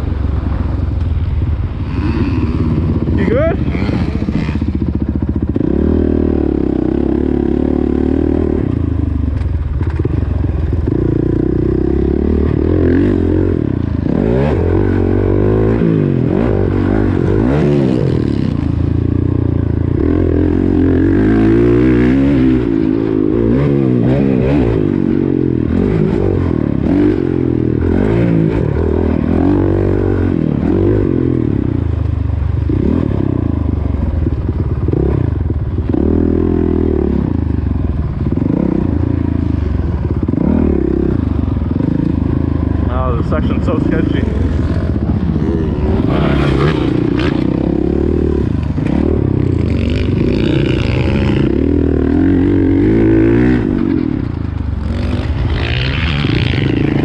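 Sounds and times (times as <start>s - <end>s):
motocross bike engine revving: 1.6s - 8.8s, 9.8s - 57.0s.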